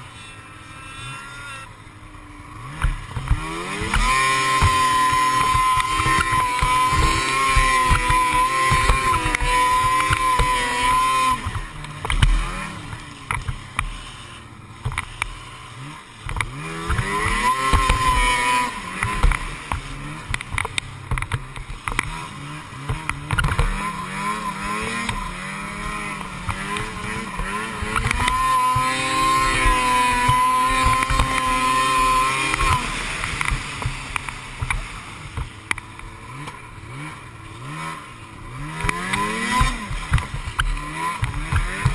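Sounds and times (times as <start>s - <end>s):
snowmobile engine revving: 0.0s - 41.9s.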